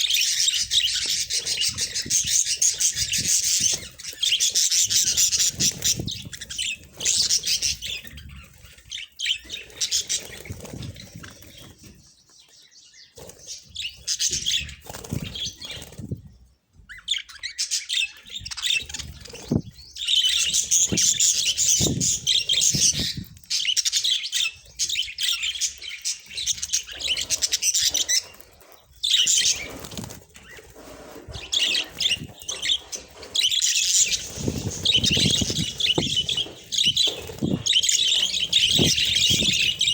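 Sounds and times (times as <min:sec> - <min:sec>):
budgerigars chattering and chirping: 0:00.0 - 0:15.9, 0:16.9 - 0:39.9.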